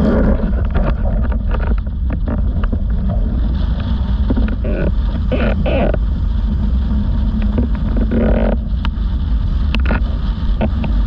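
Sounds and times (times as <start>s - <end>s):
water rushing under board: 0.0s - 11.0s
wind buffeting microphone: 0.0s - 11.0s.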